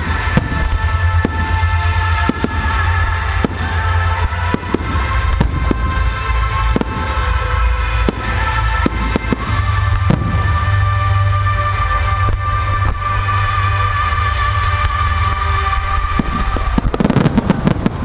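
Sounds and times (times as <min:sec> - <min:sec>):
firework shells bursting: 0:00.0 - 0:18.0
loud music with heavy bass: 0:00.0 - 0:18.0.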